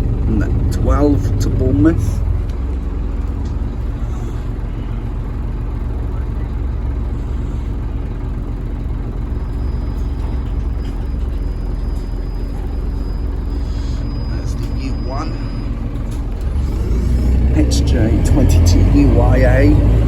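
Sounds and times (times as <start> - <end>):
bus engine rumbling: 0.0 - 20.0.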